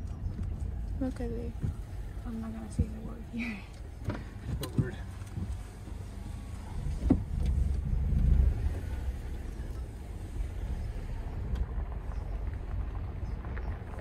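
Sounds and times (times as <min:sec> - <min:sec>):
car rumble: 0:00.0 - 0:14.0.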